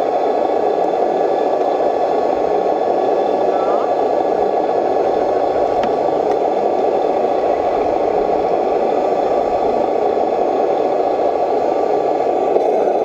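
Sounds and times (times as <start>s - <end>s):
faint constant whine: 0.0s - 13.0s.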